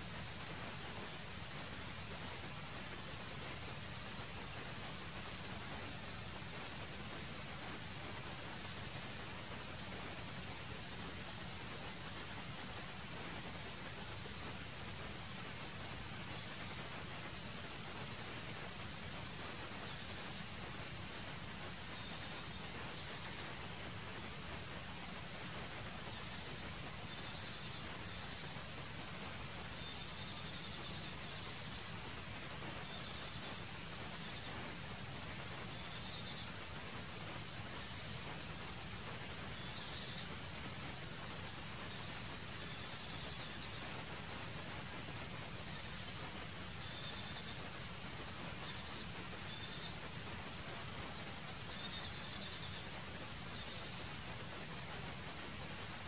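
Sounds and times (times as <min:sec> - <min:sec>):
insects chirping rapidly: 0:00.0 - 0:56.0
insects droning: 0:00.0 - 0:56.0.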